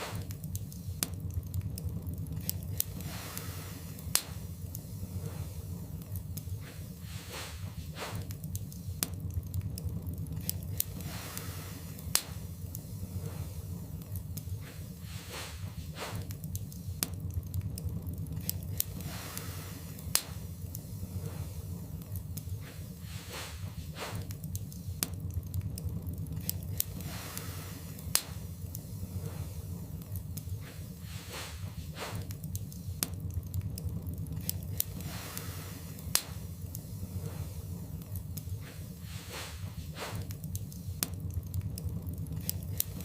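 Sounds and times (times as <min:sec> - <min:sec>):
fire flames rumbling: 0:00.0 - 0:43.0
logs crackling and popping: 0:00.0 - 0:43.0.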